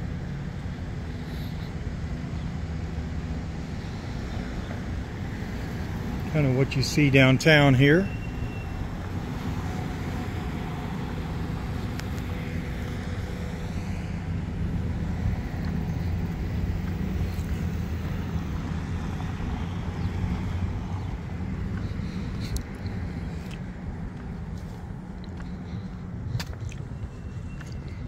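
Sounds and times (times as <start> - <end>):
traffic going by: 0.0 - 28.0.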